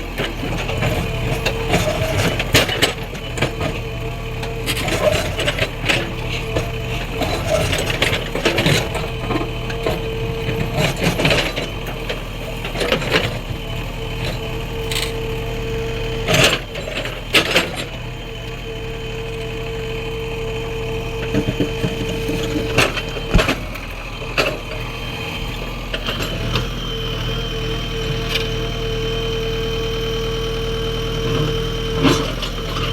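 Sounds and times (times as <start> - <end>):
diesel engine running with whine: 0.0 - 32.9.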